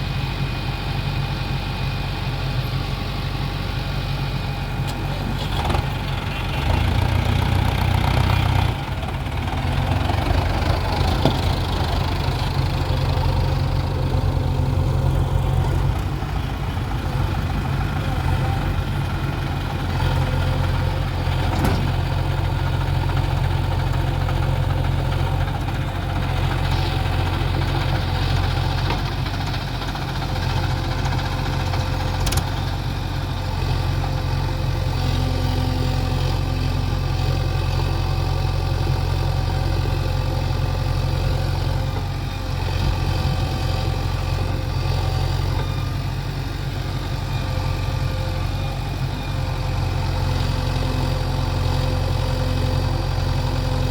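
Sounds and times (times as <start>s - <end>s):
heavy diesel machinery engine hum: 0.0s - 53.9s.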